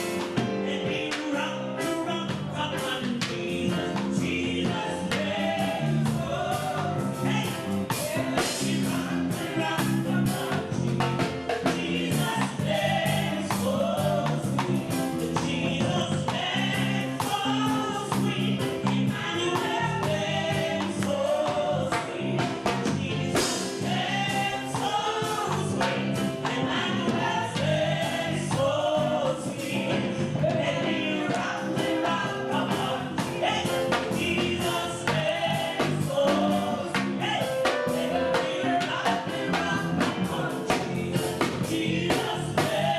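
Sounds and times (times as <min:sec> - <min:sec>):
gospel voices singing: 0:00.0 - 0:42.9
instrumental accompaniment with beat: 0:00.0 - 0:42.9.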